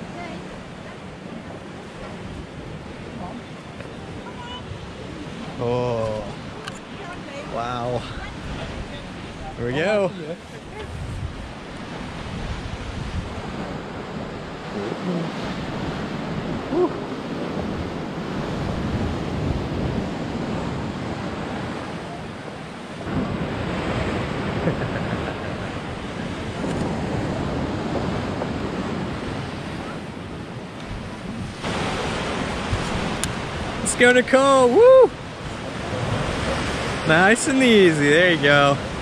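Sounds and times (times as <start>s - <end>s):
sea surf: 0.0s - 39.0s
wind rushing over microphone: 0.0s - 39.0s.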